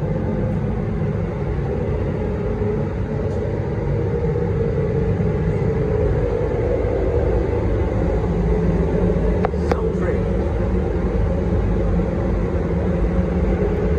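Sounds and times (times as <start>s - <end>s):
loud low rumbling: 0.0s - 13.9s.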